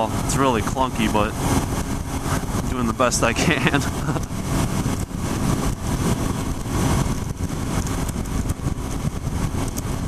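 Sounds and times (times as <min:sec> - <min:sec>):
motorcycle engine running: 0:00.0 - 0:10.0
riding wind noise: 0:00.0 - 0:10.0.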